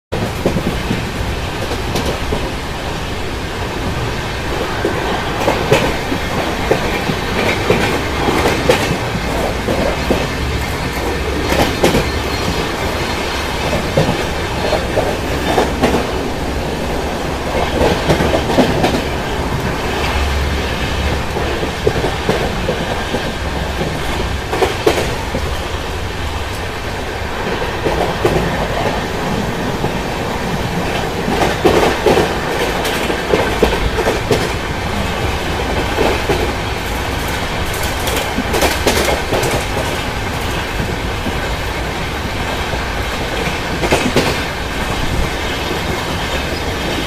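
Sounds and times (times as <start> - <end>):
rumble of wheels on rail: 0.1 - 47.0
wheels clacking over rail joints: 0.1 - 47.0.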